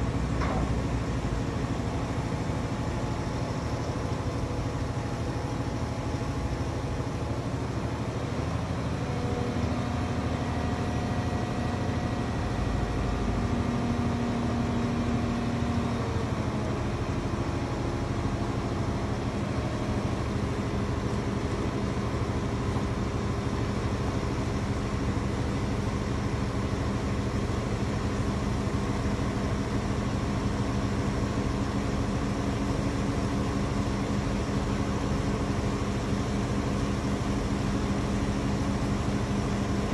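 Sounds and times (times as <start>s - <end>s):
crane diesel engine under load: 0.0s - 39.9s.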